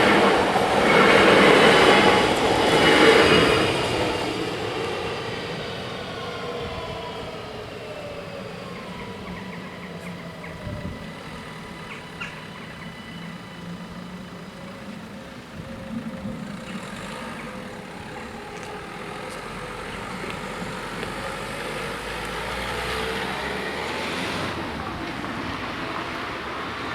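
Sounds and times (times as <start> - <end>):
vehicle engine and tyre noise: 0.0 - 26.9.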